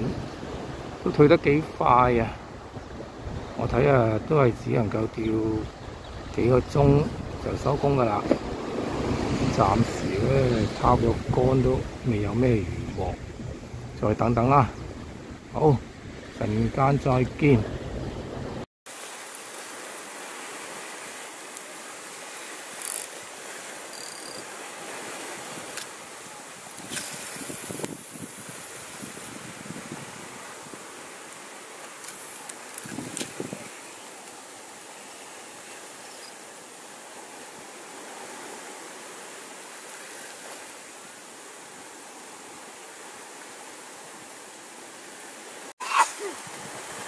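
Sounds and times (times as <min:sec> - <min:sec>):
surf washing on shore: 0:00.0 - 0:47.0
wind: 0:00.0 - 0:47.0.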